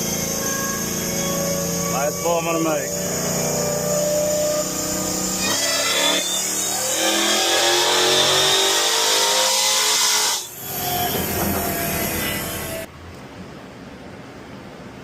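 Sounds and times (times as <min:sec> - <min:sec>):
supercharged engine revving: 0:00.0 - 0:12.9.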